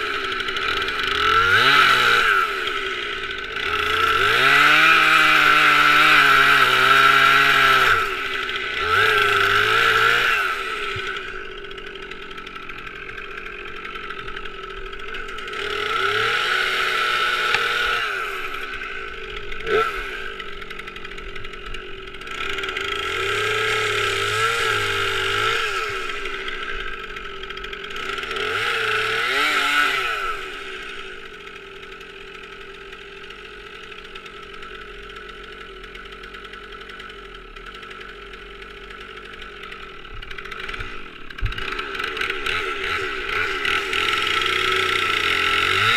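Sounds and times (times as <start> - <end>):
chainsaw revving and idling: 0.0 - 45.9.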